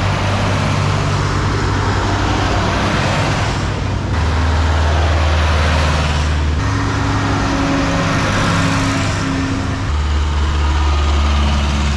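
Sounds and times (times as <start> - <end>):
tractor engines driving past: 0.0 - 11.9.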